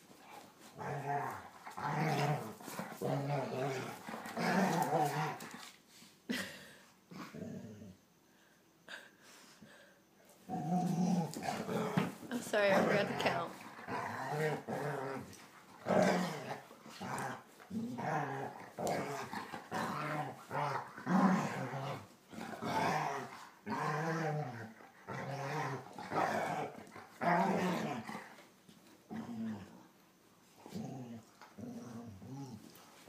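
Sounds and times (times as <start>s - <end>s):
dogs growling in play: 0.0s - 8.2s, 9.7s - 33.0s.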